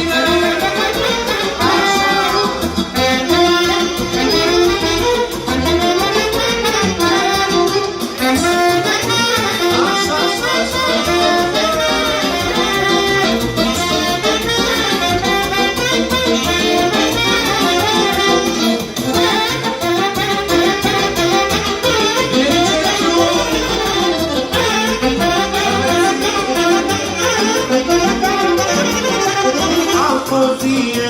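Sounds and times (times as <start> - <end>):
folk band playing: 0.0 - 31.0.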